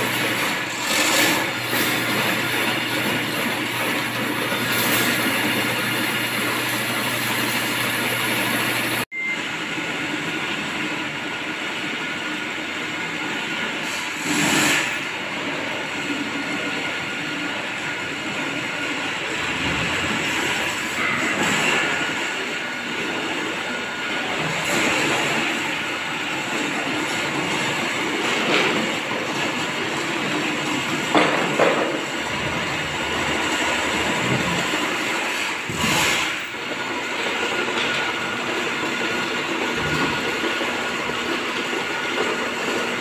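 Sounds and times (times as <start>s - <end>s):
drain-cleaning machine running: 0.0s - 43.0s.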